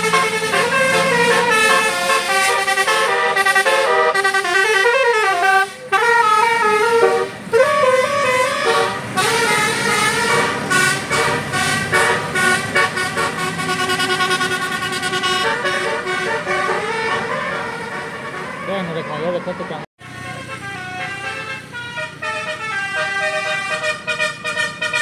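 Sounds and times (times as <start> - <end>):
melodic multi-trumpet air horn: 0.0 - 25.0.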